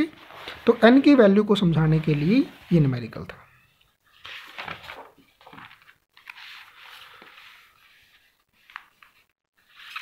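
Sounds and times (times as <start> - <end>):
paper pages rustling: 0.0 - 2.8, 4.1 - 10.0.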